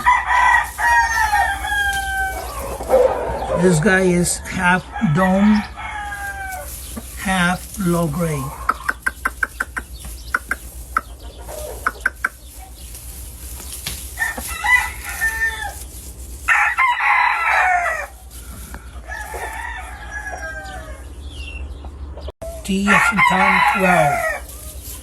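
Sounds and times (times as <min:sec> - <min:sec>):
roosters crowing: 0:00.0 - 0:25.0.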